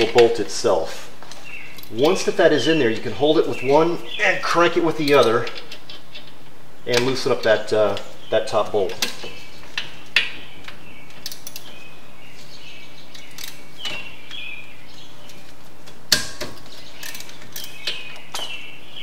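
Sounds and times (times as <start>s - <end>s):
birds chirping faintly: 0.0s - 19.0s
steady low hum: 0.0s - 19.0s.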